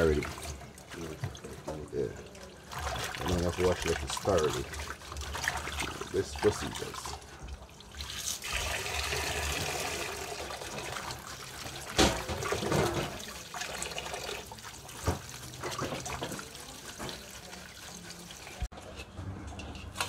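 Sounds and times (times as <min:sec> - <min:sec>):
tap water running into bowl: 0:00.0 - 0:18.7.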